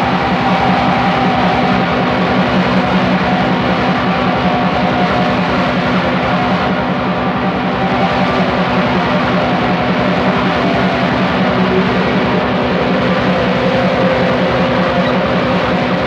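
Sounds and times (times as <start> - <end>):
distorted black metal guitars: 0.0 - 16.0.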